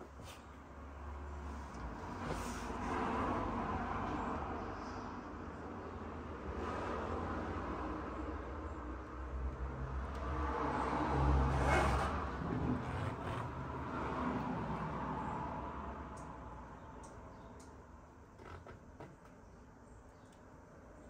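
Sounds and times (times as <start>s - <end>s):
road vehicle passing: 0.0s - 17.0s.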